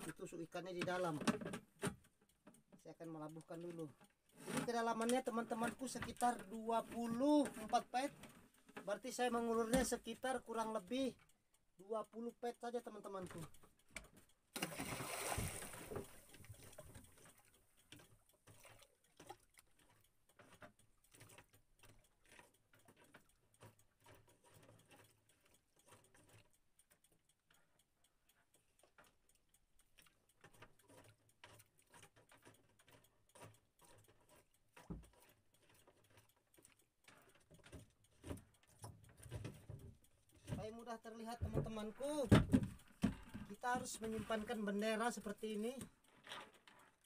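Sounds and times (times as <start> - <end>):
rope ticks and knocks on boat: 0.0 - 47.0.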